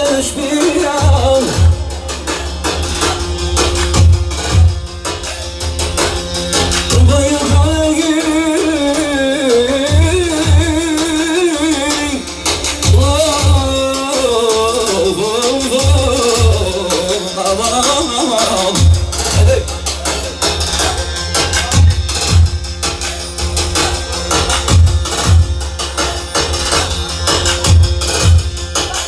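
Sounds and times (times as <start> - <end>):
heavy low drum beat: 0.0 - 29.0.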